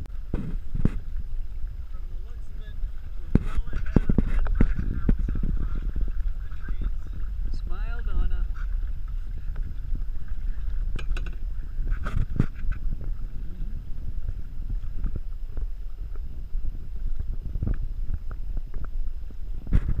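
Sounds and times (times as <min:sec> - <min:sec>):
paddle splashing in water: 0:00.0 - 0:20.0
wind rumbling on microphone: 0:00.0 - 0:20.0.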